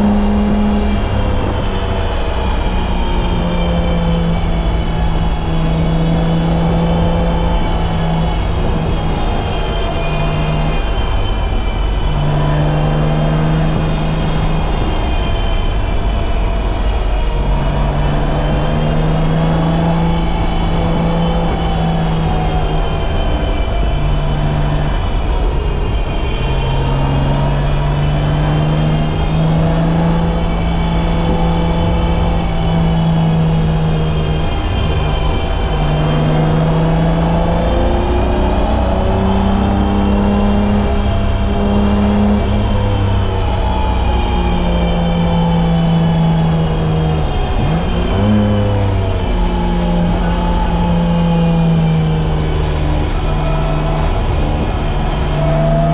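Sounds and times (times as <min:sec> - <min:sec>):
car engine revving: 0:00.0 - 0:55.9
road and cabin noise: 0:00.0 - 0:55.9.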